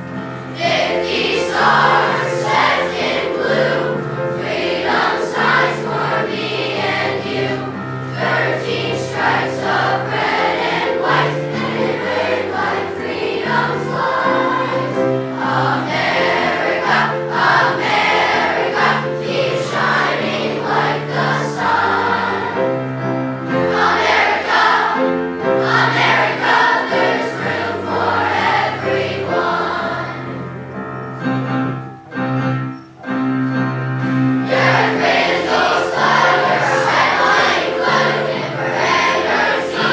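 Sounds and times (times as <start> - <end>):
children's choir singing: 0.0 - 39.9
instrumental accompaniment: 0.0 - 39.9.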